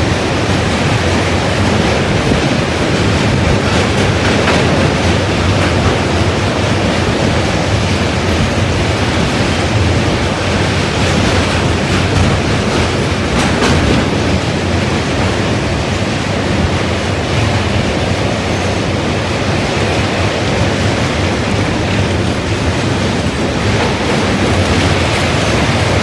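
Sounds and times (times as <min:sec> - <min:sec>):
sharp track clacks: 0:00.0 - 0:26.0
train wheels rumbling on track: 0:00.0 - 0:26.0.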